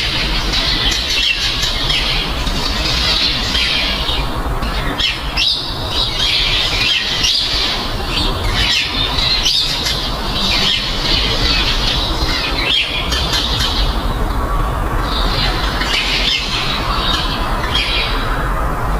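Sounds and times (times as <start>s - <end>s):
birds squawking and chirping: 0.0s - 18.9s
steady rushing noise: 0.0s - 18.9s.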